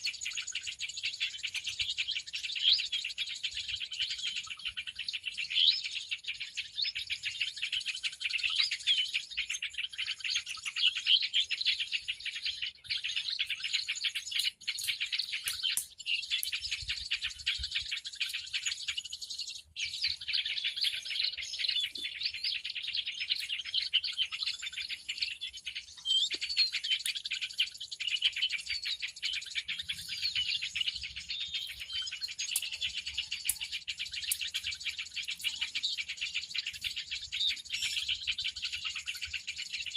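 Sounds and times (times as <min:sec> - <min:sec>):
recorded bird lure call: 0:00.0 - 0:39.9
small birds chirping and twittering: 0:00.0 - 0:39.9.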